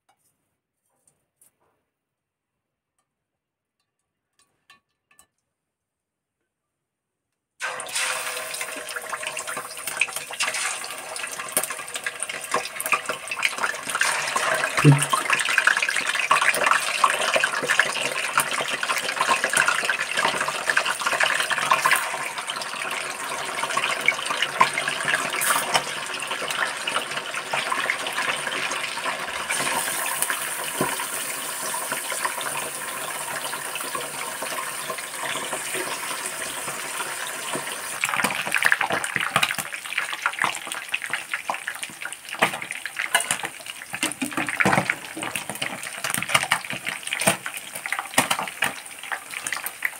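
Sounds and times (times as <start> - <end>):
fish sizzling in hot oil: 7.6 - 49.9.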